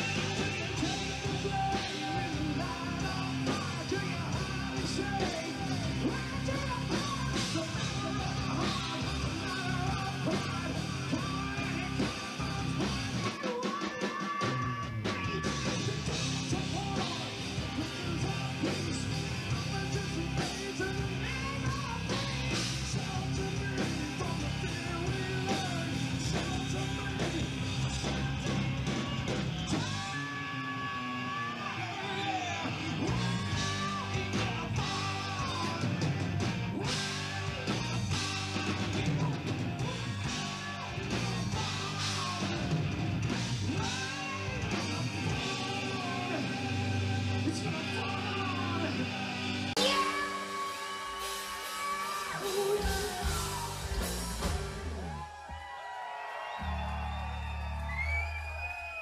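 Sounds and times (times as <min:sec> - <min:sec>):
electric guitar: 0:00.0 - 0:13.6, 0:14.2 - 0:58.7
loud shouted singing: 0:00.0 - 0:43.0, 0:43.6 - 0:59.0
rock band playing: 0:00.0 - 0:59.0.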